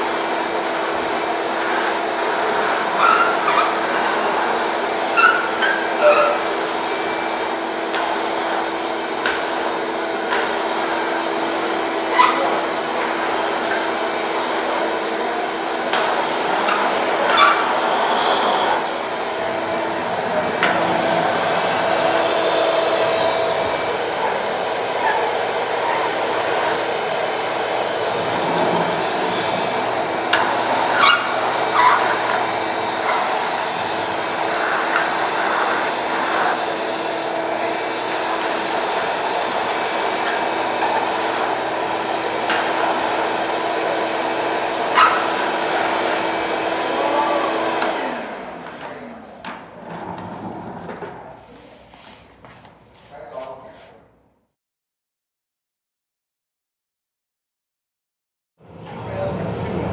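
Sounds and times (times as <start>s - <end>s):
shop vacuum droning: 0.0s - 53.9s, 58.6s - 59.9s.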